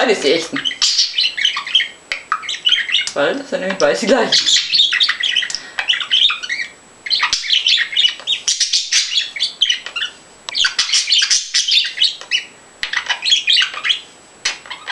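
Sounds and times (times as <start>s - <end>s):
pet bird chattering and chirping: 0.0s - 14.9s.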